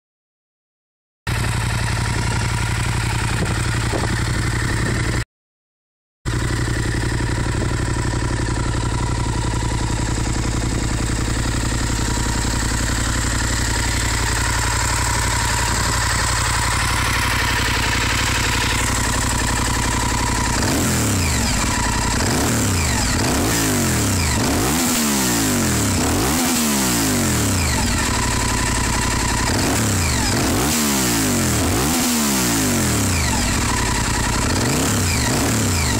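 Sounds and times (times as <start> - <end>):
motorcycle engine idling: 1.3 - 5.2, 6.3 - 35.9
engine revving: 6.4 - 35.9.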